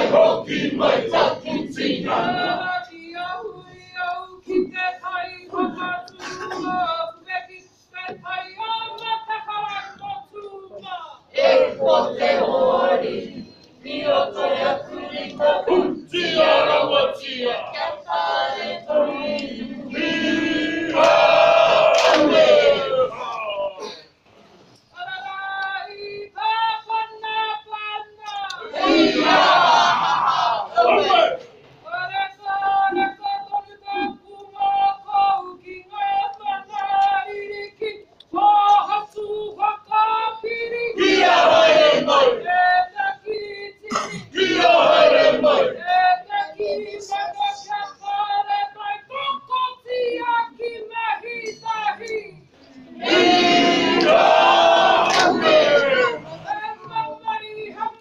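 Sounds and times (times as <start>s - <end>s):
group chanting and singing in unison: 0.0s - 58.0s.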